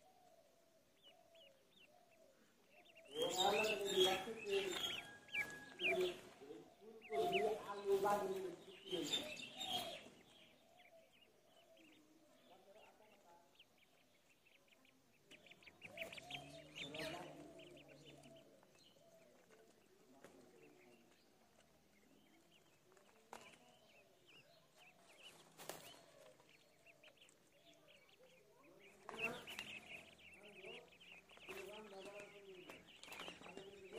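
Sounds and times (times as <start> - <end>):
ducklings peeping: 0.0 - 33.9.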